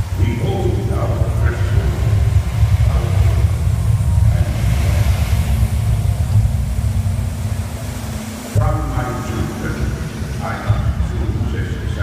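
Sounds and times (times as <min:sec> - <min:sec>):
deep rumbling from sound system: 0:00.0 - 0:12.0.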